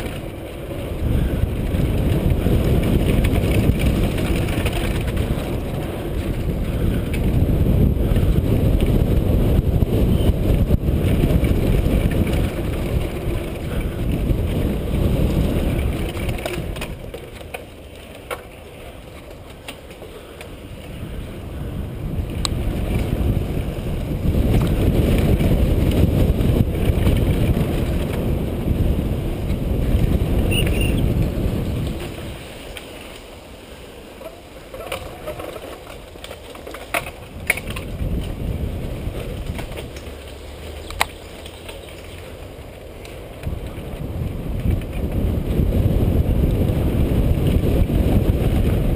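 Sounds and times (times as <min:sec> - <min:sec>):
wind buffeting microphone: 0:00.0 - 0:33.5, 0:34.4 - 0:48.9
bike rumbling over dirt trail: 0:00.0 - 0:48.9.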